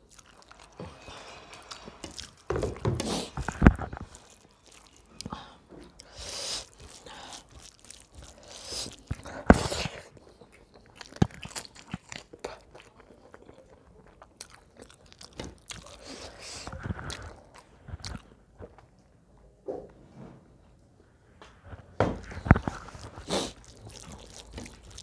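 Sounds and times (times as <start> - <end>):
person chewing crunchy food: 0.0 - 18.9, 22.2 - 25.0.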